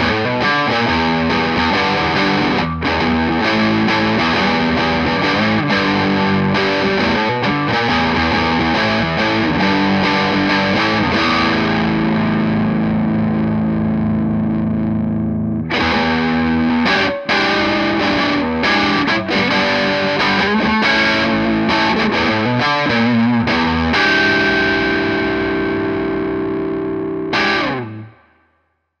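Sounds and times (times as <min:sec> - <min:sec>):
distorted electric guitar chords: 0:00.0 - 0:28.4.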